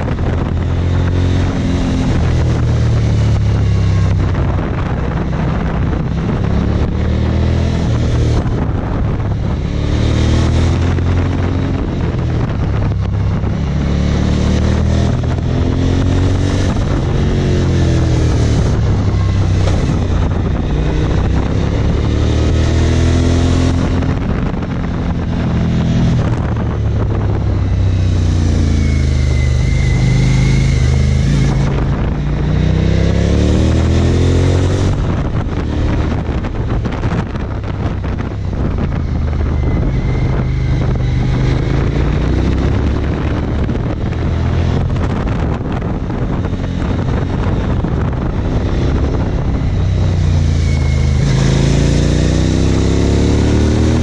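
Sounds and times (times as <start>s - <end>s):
motorcycle engine revving: 0.0s - 54.0s
wind noise on microphone: 0.0s - 54.0s.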